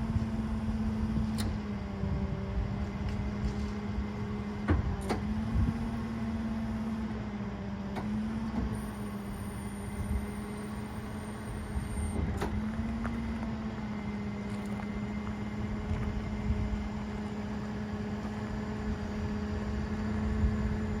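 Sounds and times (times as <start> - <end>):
truck engine humming: 0.0 - 21.0.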